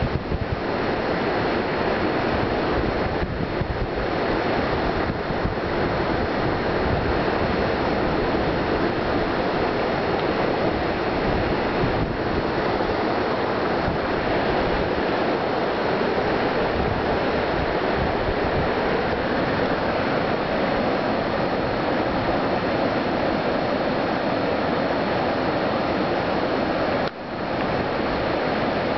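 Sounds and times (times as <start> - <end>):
water rushing over rocks: 0.0 - 28.9.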